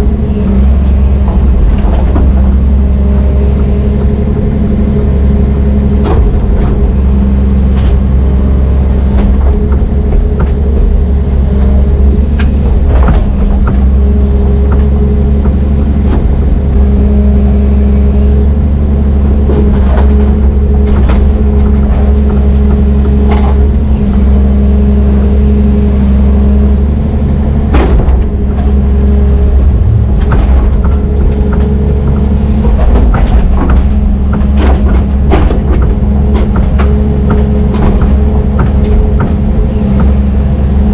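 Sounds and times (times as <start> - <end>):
knocks and clanks: 0.0 - 4.4, 5.4 - 24.4, 27.6 - 40.9
excavator diesel engine running: 0.0 - 40.9.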